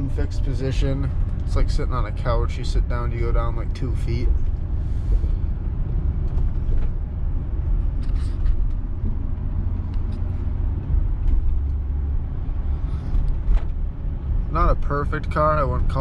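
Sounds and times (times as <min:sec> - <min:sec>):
car engine and road noise rumble: 0:00.0 - 0:16.0.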